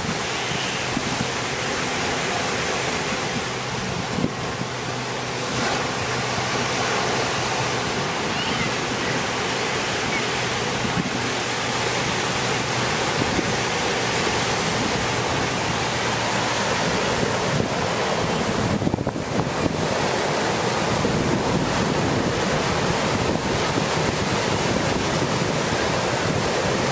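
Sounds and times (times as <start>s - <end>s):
ocean surf washing: 0.0s - 26.9s
wind buffeting microphone: 0.0s - 26.9s.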